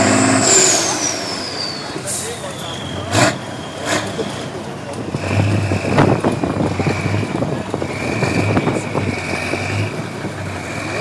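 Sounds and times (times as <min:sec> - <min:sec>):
truck engine throbbing: 0:00.0 - 0:11.0.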